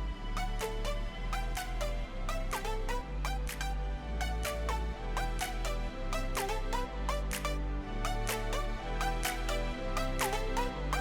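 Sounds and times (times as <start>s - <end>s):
deep bass line: 0.0s - 11.0s
electronic music with beat: 0.0s - 11.0s.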